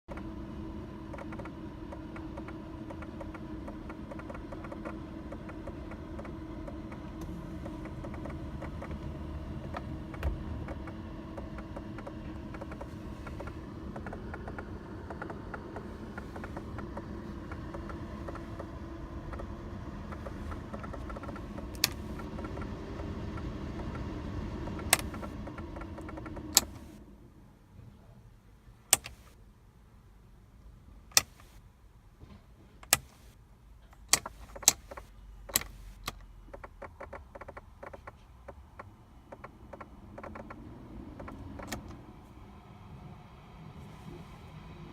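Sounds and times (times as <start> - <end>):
fan motor humming and ticking: 0.0 - 27.1, 32.8 - 44.9
sharp clicks: 1.1 - 27.0, 28.9 - 29.4, 31.1 - 31.6, 32.8 - 42.0.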